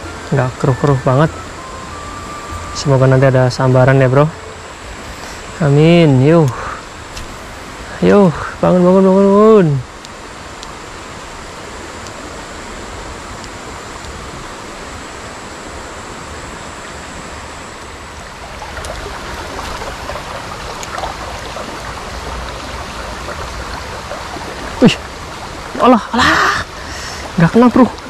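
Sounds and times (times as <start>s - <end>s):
flowing river water: 0.0s - 28.0s.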